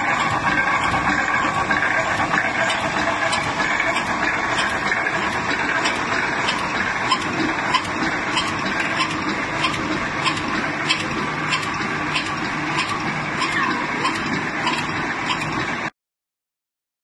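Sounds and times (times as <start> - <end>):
machine clattering: 0.0 - 15.9
sharp machine click: 0.2 - 15.7.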